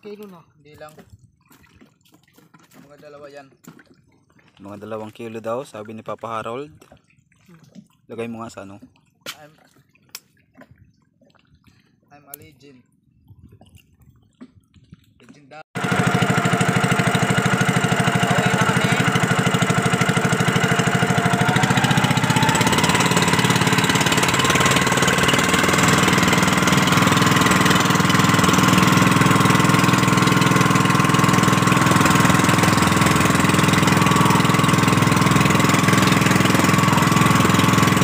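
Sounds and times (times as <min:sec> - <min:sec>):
boat engine running: 0:00.0 - 0:12.5, 0:15.8 - 0:38.0.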